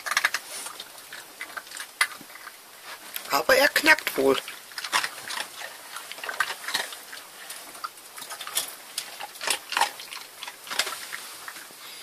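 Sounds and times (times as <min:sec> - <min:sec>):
dog crunching dry kibble: 0:00.0 - 0:11.7.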